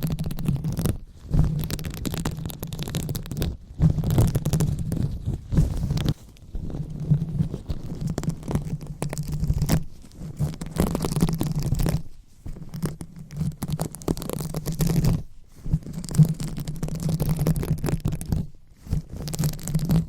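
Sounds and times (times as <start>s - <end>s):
fingers scratching on microphone: 0.0s - 20.0s.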